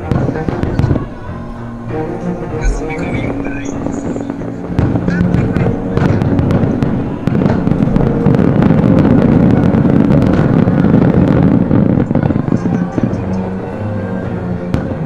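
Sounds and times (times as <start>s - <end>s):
fireworks bursting: 0.0s - 15.0s
fireworks crackling: 0.0s - 15.0s.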